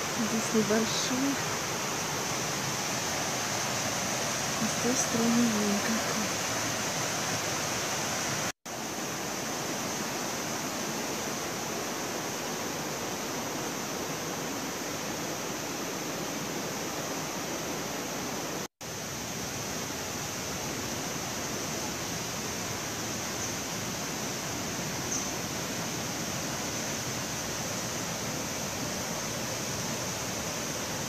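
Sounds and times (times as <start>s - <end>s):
waterfall cascading over rock: 0.0s - 31.0s.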